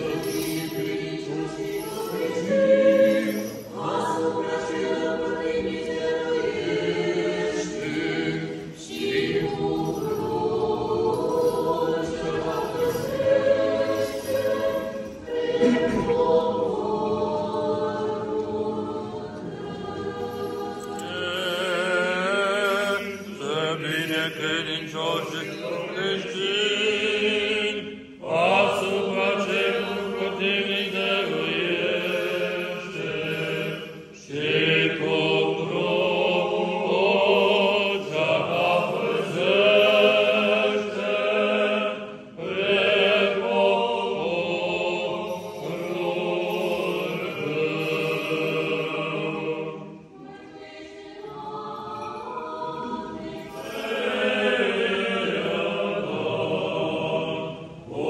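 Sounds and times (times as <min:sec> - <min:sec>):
church singers chanting: 0:00.0 - 0:58.0.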